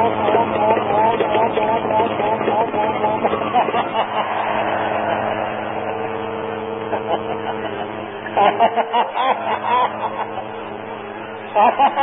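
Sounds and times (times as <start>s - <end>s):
person bursting into laughter: 0.0s - 6.1s, 6.8s - 10.6s, 11.5s - 12.0s
crowd laughing: 0.0s - 12.0s.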